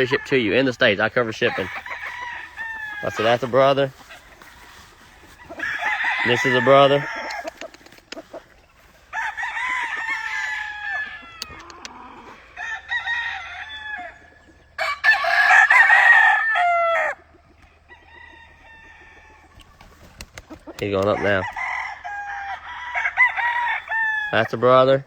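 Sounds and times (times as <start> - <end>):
roosters crowing: 0.0 - 25.0.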